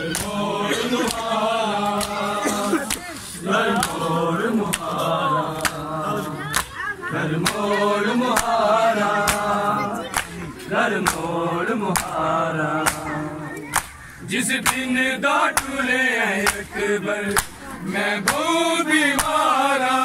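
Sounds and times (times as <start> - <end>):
hands slapping bare chests: 0.0 - 6.8, 7.4 - 8.6, 9.2 - 11.3, 11.9 - 14.9, 15.5 - 18.5, 19.1 - 19.6
men chanting in unison: 0.0 - 20.0.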